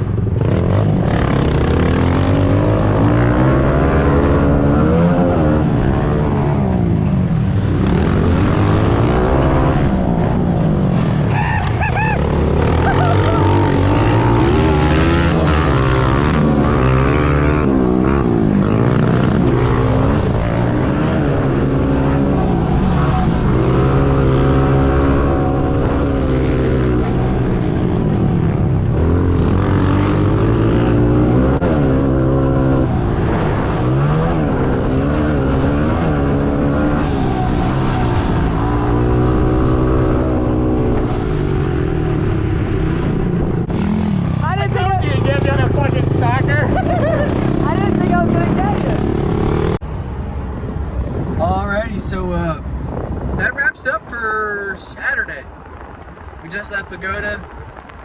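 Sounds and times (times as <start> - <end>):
motorbike engine revving hard: 0.0 - 49.8.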